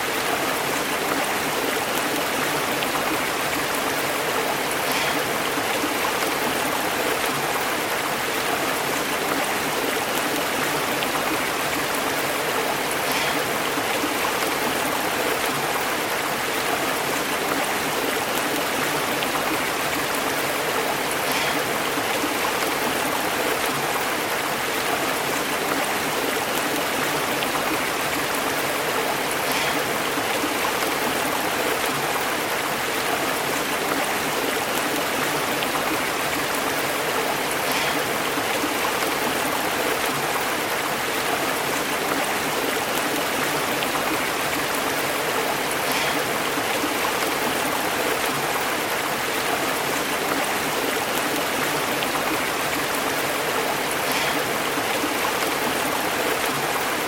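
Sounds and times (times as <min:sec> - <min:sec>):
stream bubbling over rocks: 0:00.0 - 0:57.0.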